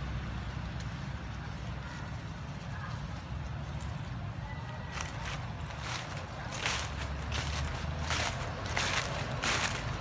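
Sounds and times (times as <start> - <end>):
footsteps crunching on dry leaves: 0.7 - 10.0.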